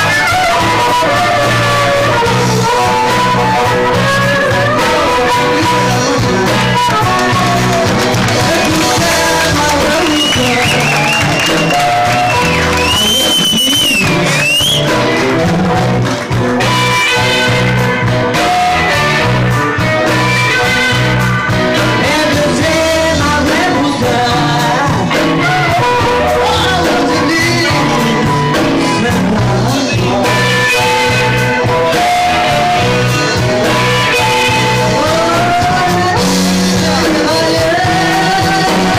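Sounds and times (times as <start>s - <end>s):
woman singing: 0.0s - 17.5s, 21.8s - 33.1s, 33.7s - 38.9s
bass: 0.0s - 38.9s
drums: 0.0s - 38.9s
electric guitars: 0.0s - 38.9s.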